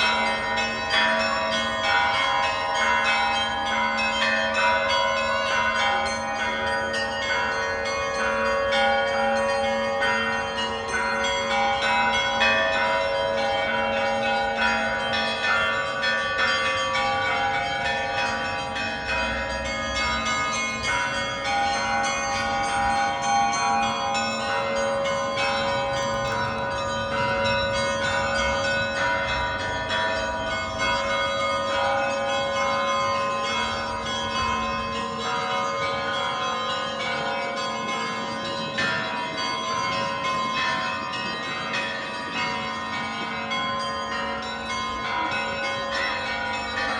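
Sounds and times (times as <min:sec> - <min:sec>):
church bells pealing: 0:00.0 - 0:46.9
large bells ringing: 0:00.0 - 0:46.9.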